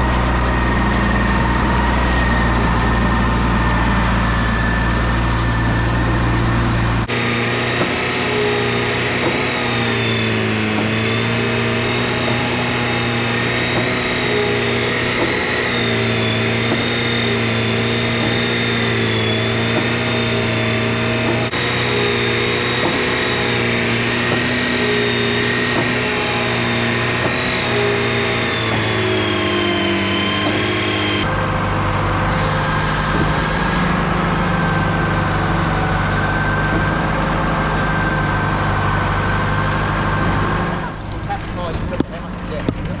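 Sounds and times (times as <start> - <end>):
engine running: 0.0 - 43.0.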